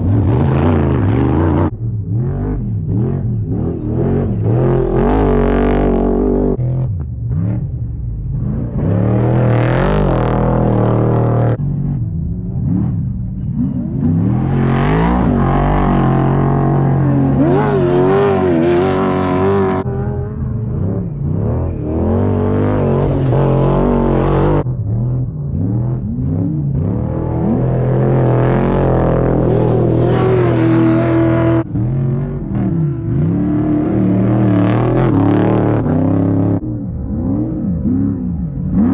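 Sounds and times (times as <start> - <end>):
race vehicle engines revving: 0.0 - 38.9.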